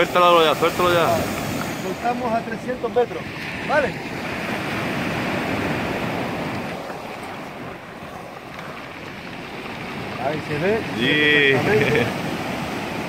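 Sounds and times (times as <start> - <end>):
surf breaking on pebble beach: 0.0 - 13.0
wind buffeting microphone: 0.0 - 13.0.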